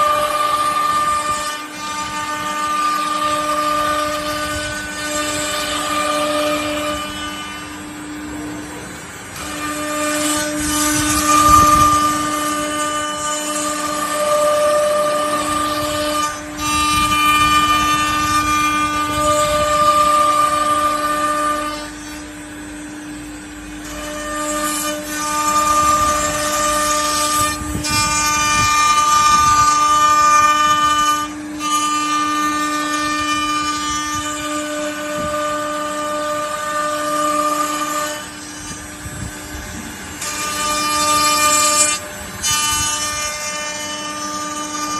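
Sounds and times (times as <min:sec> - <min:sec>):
hissy wood cutting noise: 0:00.0 - 0:44.9
router spindle whine: 0:00.0 - 0:44.9.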